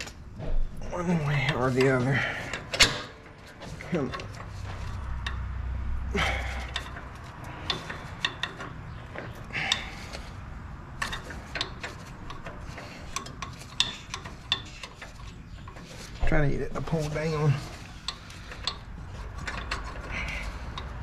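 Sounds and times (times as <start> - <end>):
light metallic clicks and knocks: 0.0 - 21.0.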